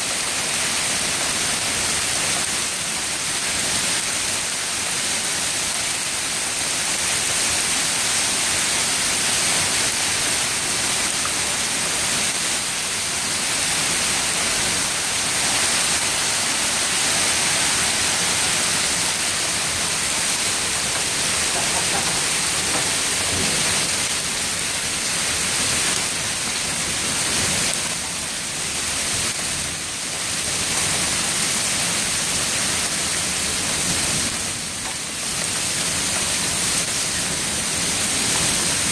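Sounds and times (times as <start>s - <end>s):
hail and rain pounding: 0.0s - 38.9s.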